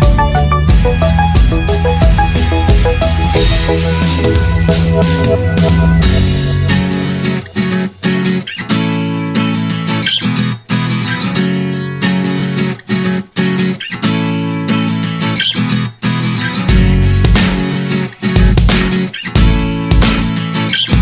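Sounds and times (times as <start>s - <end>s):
strummed acoustic guitar music: 0.0s - 21.0s.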